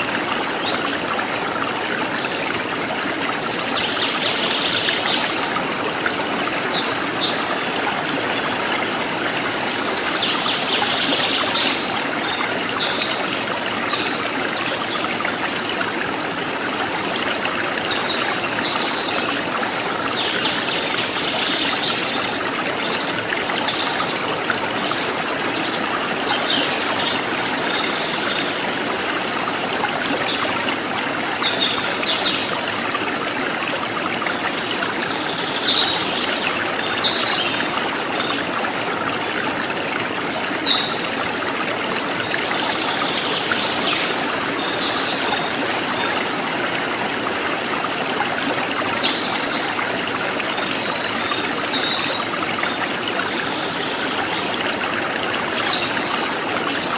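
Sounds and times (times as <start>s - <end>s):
stream trickling over rocks: 0.0s - 56.9s.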